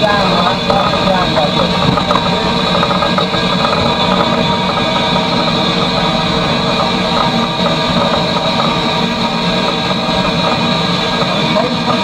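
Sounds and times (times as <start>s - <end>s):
steam locomotive running noise: 0.0s - 12.0s.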